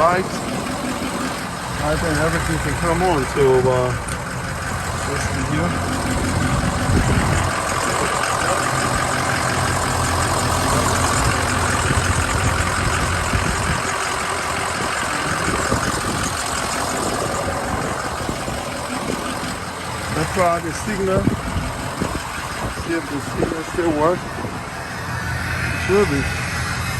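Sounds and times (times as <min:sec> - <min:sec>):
van engine idling: 0:00.0 - 0:26.9.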